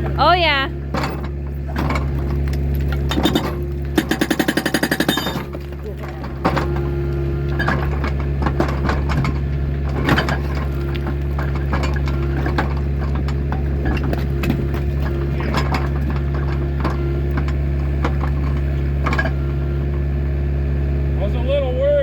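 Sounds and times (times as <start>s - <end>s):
excavator engine running: 0.0s - 22.0s
steel clanking against rock: 0.9s - 20.1s.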